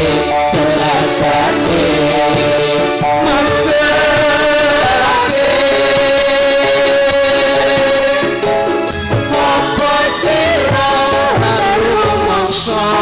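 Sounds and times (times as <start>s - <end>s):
electric guitars: 0.0s - 13.0s
hand drums beat: 0.0s - 13.0s
keyboard: 0.0s - 13.0s
person singing: 0.0s - 13.0s.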